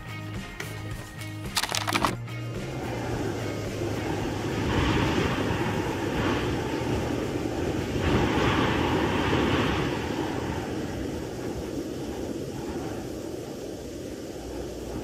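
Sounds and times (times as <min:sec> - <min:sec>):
howling wind with low rumble: 0:02.7 - 0:15.0.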